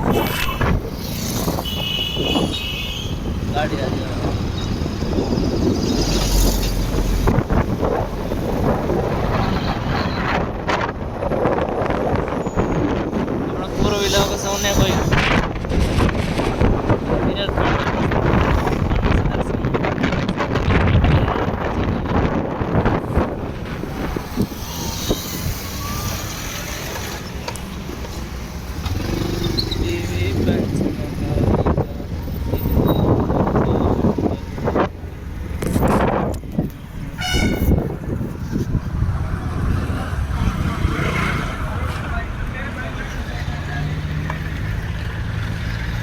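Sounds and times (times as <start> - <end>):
wind buffeting microphone: 0.0 - 42.6
motorbike engine and road rumble: 0.0 - 46.0.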